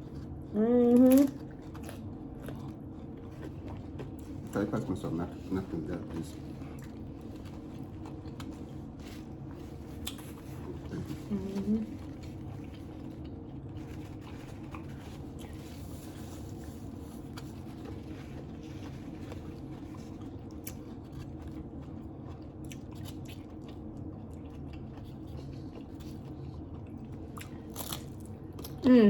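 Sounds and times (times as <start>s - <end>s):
person chewing and crunching: 0.0s - 28.9s
steady low hum: 0.0s - 29.0s.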